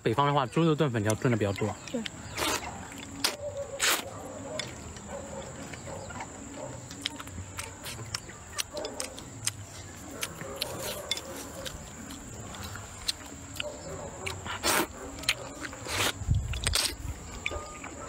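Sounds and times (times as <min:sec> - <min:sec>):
low closed-mouth hums: 0:01.0 - 0:18.0
wet chewing and lip smacks: 0:01.0 - 0:18.0.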